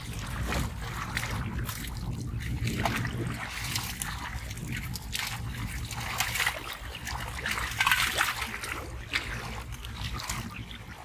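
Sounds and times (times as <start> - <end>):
muddy water splashing: 0.0 - 11.0.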